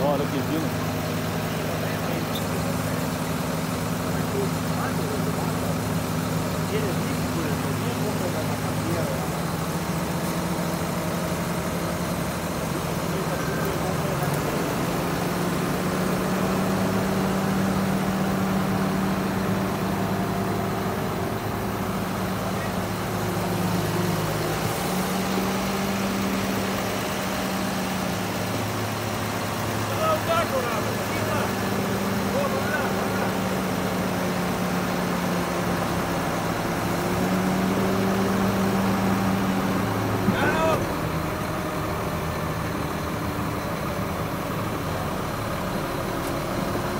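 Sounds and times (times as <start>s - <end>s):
heavy diesel engines running: 0.0s - 46.9s.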